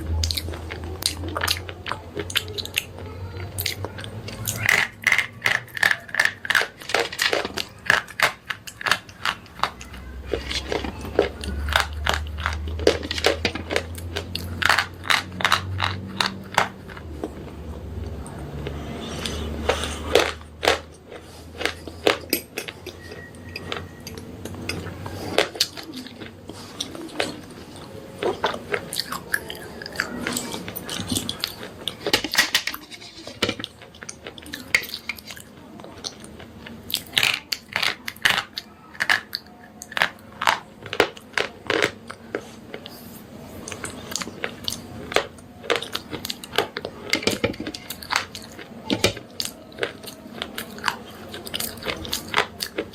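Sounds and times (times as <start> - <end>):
pencils being chewed crunching: 0.0 - 52.9.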